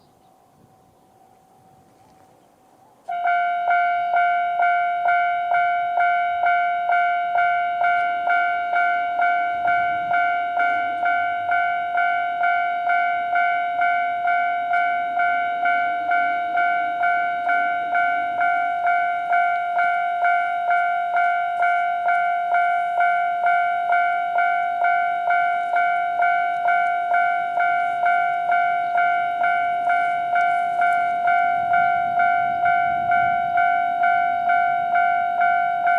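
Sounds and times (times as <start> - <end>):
level crossing alarm dinging: 3.1 - 35.9.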